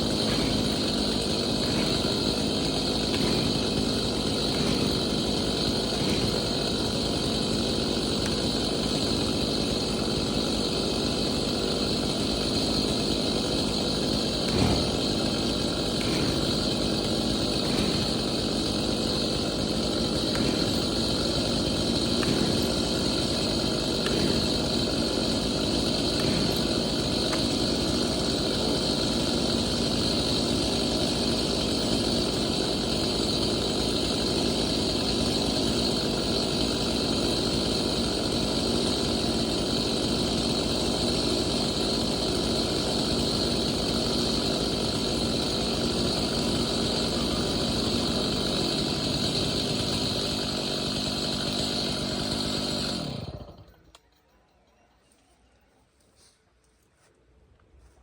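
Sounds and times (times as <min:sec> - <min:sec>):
chainsaw engine idling: 0:00.0 - 0:54.9.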